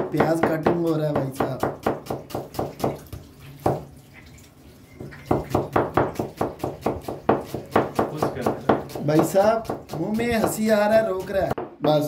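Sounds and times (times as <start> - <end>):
knife slicing onion on cutting board: 0.0 - 3.9, 5.2 - 12.0.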